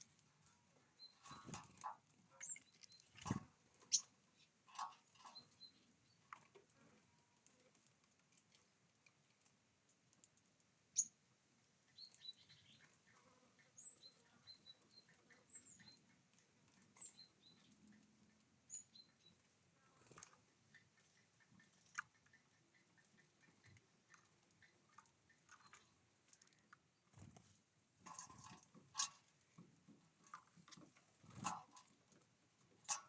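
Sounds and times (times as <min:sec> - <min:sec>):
small birds chirping: 0:00.0 - 0:06.8, 0:09.4 - 0:33.0.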